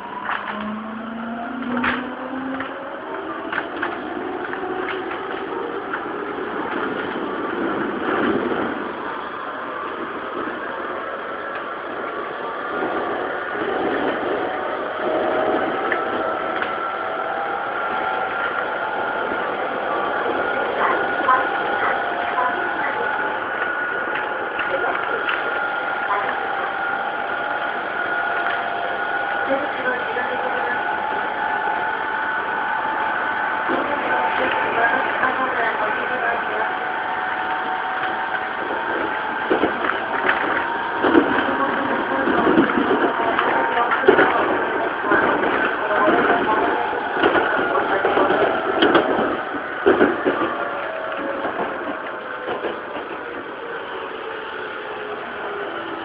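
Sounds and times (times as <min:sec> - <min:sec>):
train motor tones: 0:00.0 - 0:56.0
train wheels rumbling on rail: 0:00.0 - 0:56.0.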